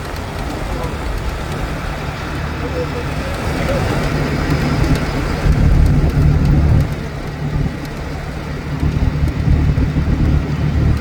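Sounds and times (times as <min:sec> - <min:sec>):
motor vehicle rumble on road: 0:00.0 - 0:11.0.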